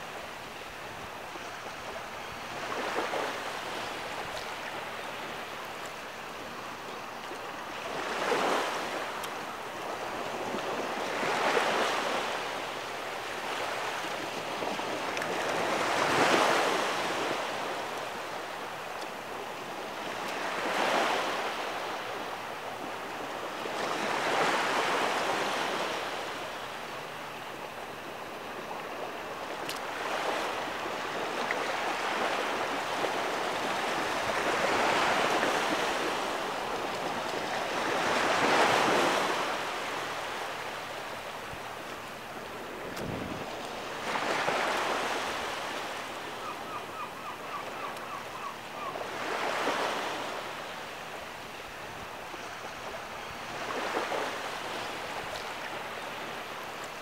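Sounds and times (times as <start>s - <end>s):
small waves washing on sand: 0.0s - 47.9s, 48.7s - 57.0s.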